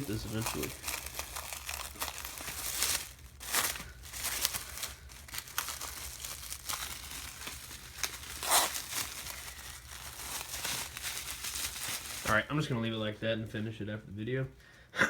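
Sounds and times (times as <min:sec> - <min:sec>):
plastic wrap crinkling and tearing: 0:00.0 - 0:12.7.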